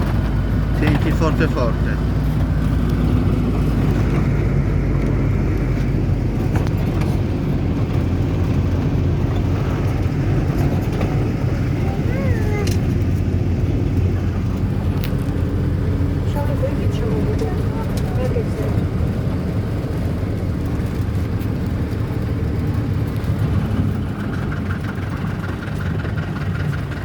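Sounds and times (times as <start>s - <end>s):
car interior engine and road noise: 0.0s - 27.0s.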